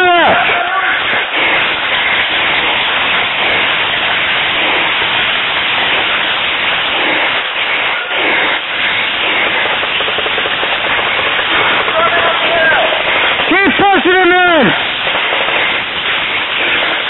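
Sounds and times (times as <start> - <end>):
rushing noise on microphone: 0.0 - 17.0.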